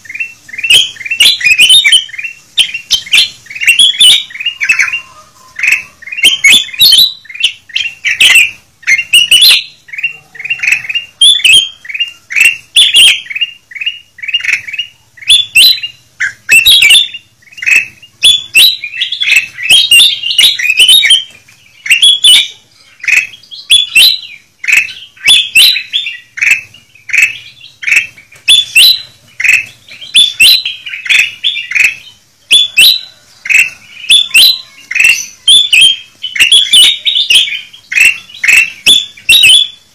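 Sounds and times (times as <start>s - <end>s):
bulbuls chattering chirps: 0.0s - 39.9s.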